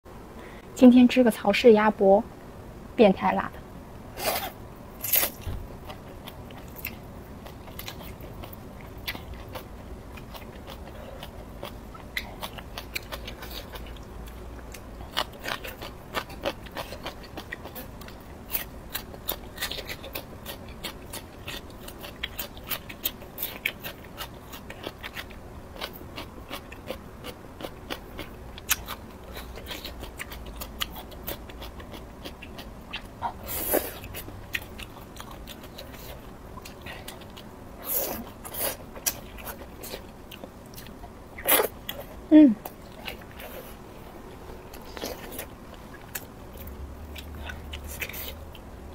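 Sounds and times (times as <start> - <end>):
woman chewing: 4.2 - 48.7.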